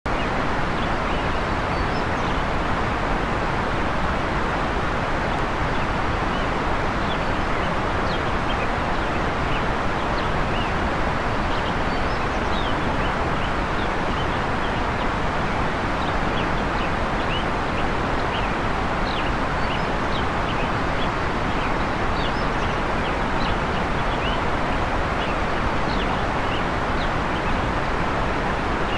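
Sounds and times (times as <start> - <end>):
waterfall rushing: 0.1 - 28.9.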